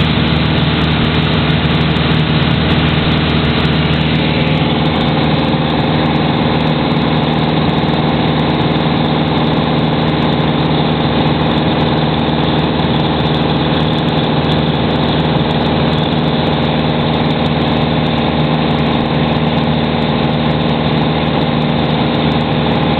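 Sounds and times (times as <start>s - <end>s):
aircraft engine drone in cockpit: 0.0s - 22.9s.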